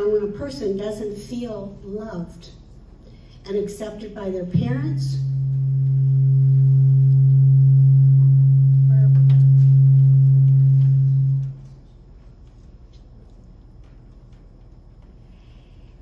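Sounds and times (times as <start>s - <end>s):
low electronic hum: 0.0s - 16.0s.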